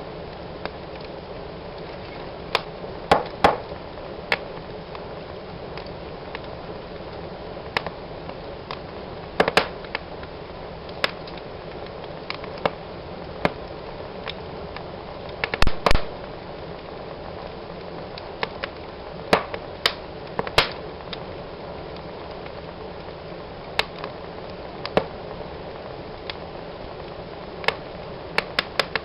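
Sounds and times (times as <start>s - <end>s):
fire hissing: 0.0s - 29.0s
wood fire crackling and popping: 0.0s - 29.0s.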